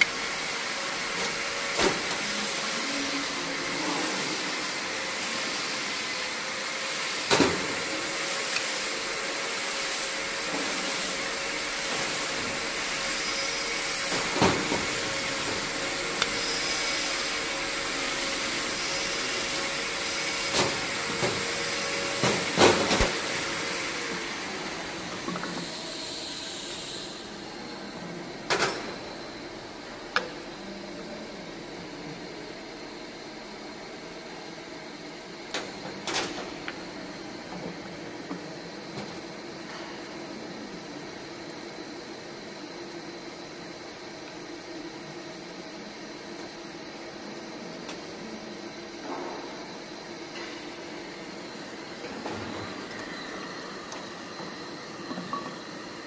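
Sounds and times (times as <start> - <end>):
machine blowing hiss: 0.0 - 32.3, 33.3 - 56.0.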